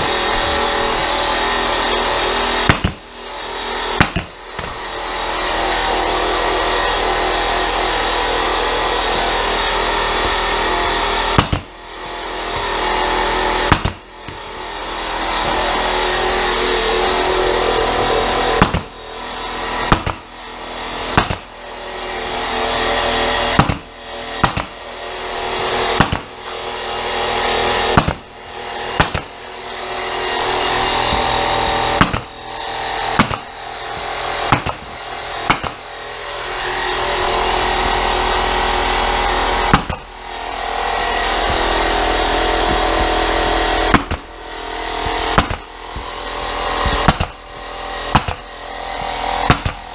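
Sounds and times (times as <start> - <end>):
pneumatic nail gun firing: 0.0 - 5.8, 7.0 - 14.7, 15.4 - 21.6, 22.4 - 49.9
air compressor running: 0.0 - 49.9.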